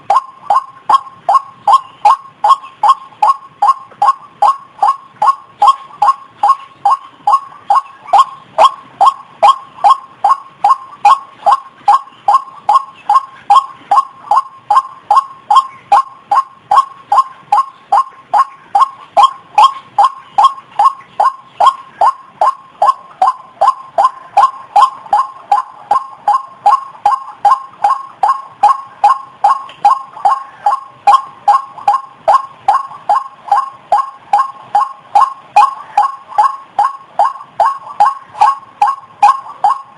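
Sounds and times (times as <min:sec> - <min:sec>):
bird calling short pitched calls: 0:00.0 - 0:39.9.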